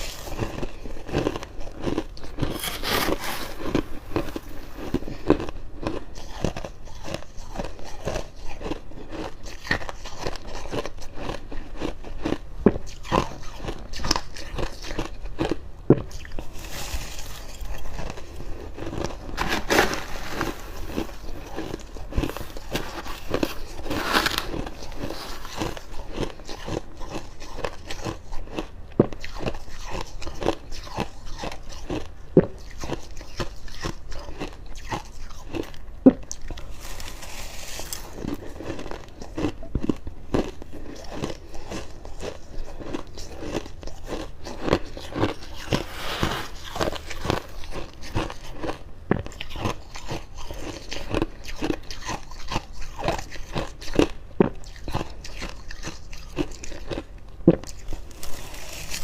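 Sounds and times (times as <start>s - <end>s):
chewing crunchy frost: 0.0s - 59.0s.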